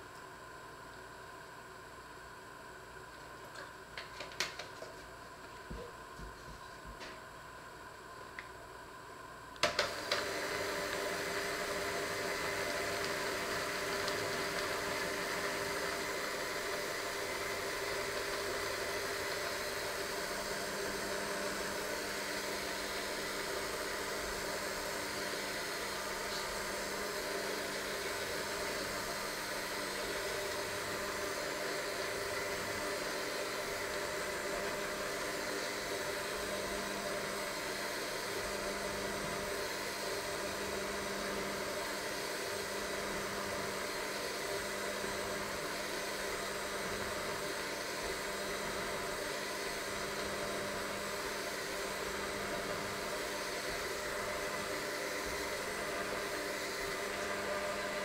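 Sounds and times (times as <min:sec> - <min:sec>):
hand mixer motor running: 0:09.6 - 0:58.0.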